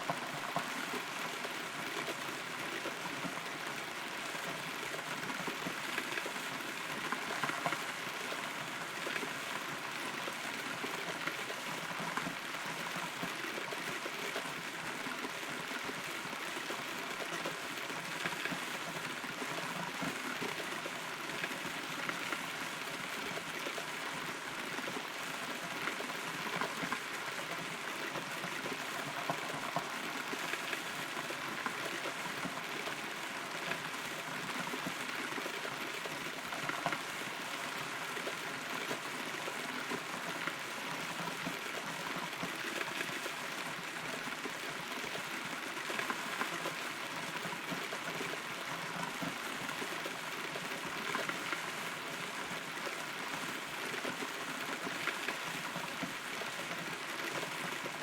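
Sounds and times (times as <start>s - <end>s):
rain patter of small drops: 0.0s - 58.0s.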